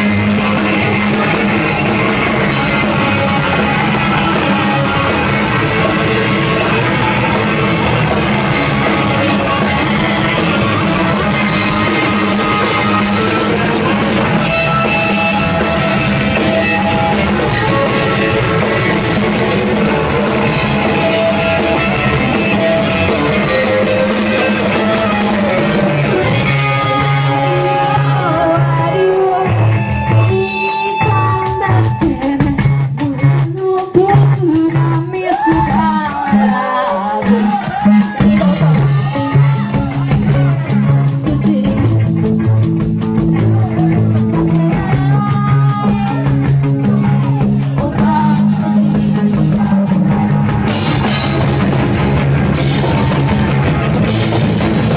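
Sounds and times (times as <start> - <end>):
person singing: 0.0 - 42.3, 43.0 - 51.7
bass guitar: 0.0 - 54.9
drums: 0.0 - 54.9
electric guitars: 0.0 - 54.9.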